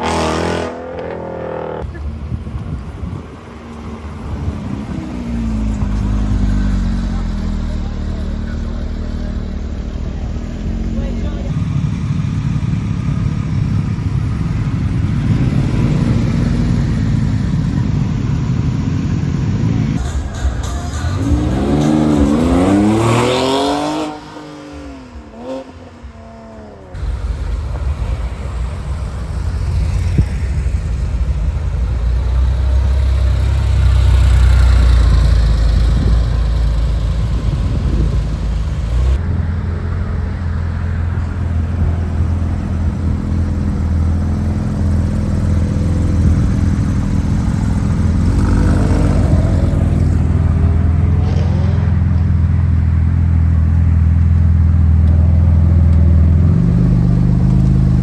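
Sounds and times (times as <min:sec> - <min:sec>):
car engine revving: 0:00.0 - 0:58.0
low engine rumble: 0:01.8 - 0:23.6, 0:24.7 - 0:58.0.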